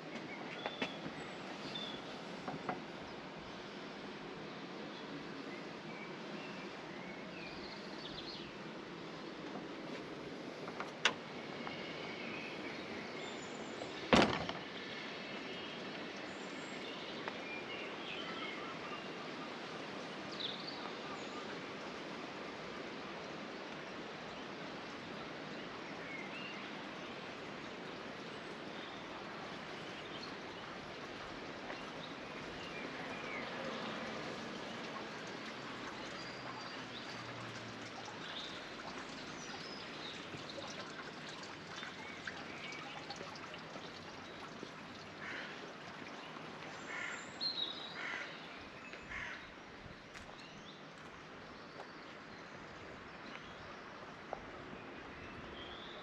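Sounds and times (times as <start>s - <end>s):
stream water running: 0.0s - 56.0s.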